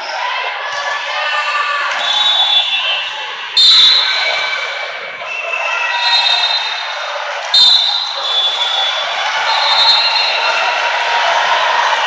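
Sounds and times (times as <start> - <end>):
din of voices in a gym: 0.0 - 12.0.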